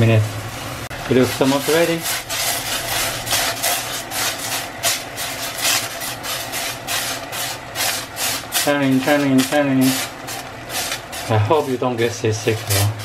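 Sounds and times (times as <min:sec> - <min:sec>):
pan scraping on burner: 0:01.1 - 0:13.0.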